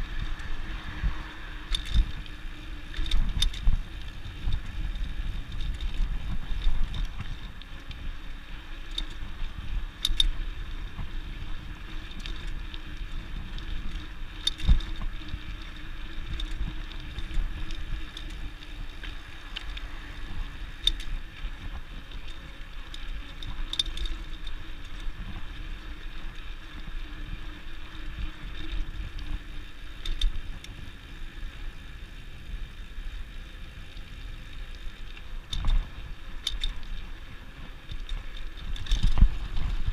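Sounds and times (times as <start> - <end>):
bicycle tyres rumbling on concrete: 0.0 - 39.9
bike clicking and rattling: 0.0 - 39.9.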